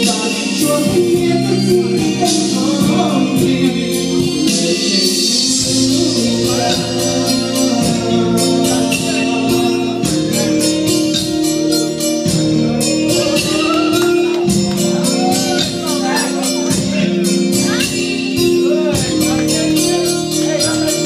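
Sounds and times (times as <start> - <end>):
man singing into microphone: 0.0 - 11.4, 12.4 - 21.0
karaoke backing track over speakers: 0.0 - 21.0.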